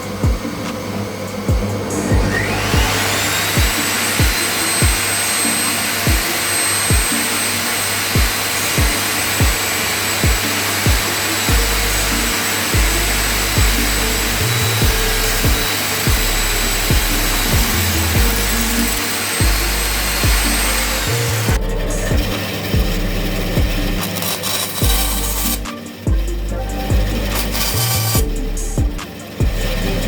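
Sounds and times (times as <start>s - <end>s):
background music with steady beat: 0.0s - 30.0s
electric tool motor whining: 0.0s - 30.0s.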